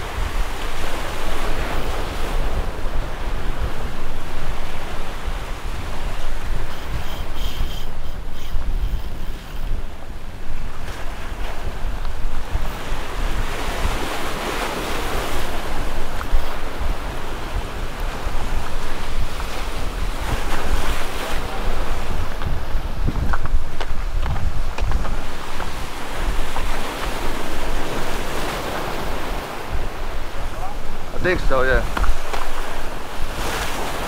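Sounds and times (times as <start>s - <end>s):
surf washing against rocks: 0.0s - 34.0s
wind buffeting microphone: 0.0s - 34.0s.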